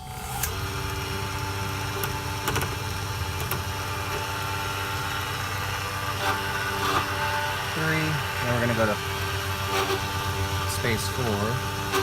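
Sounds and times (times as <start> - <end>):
key-cutting machine motor running: 0.0 - 12.0.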